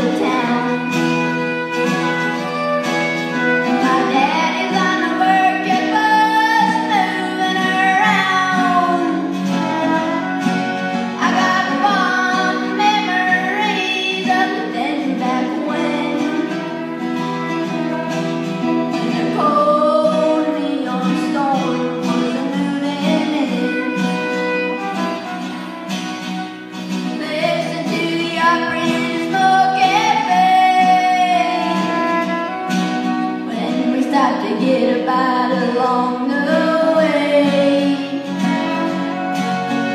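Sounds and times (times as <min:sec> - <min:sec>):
person singing: 0:00.0 - 0:02.7, 0:03.5 - 0:17.2, 0:18.7 - 0:25.8, 0:27.1 - 0:39.9
acoustic guitars: 0:00.0 - 0:39.9
fiddle: 0:00.0 - 0:39.9.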